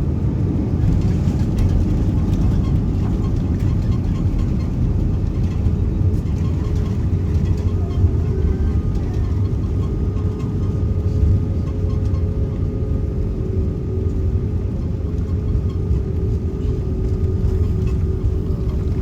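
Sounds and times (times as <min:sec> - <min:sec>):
airliner cabin rumble: 0:00.0 - 0:19.0
droning hum: 0:00.0 - 0:19.0.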